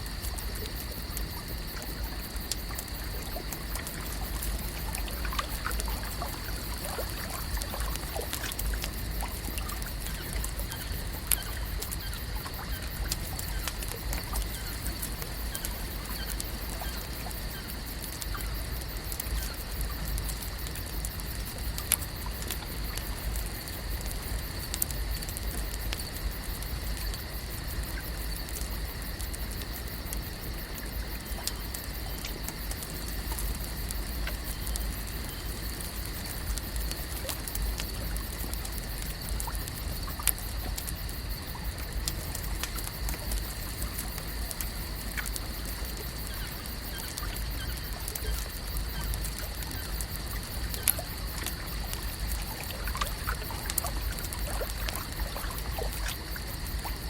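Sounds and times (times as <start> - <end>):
constant high hum: 0.0 - 57.0
small clicks and ticks: 0.0 - 57.0.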